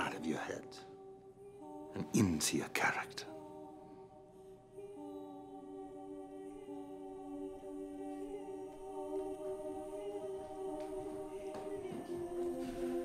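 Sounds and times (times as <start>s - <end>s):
wordless choir-like voices: 0.0s - 13.0s.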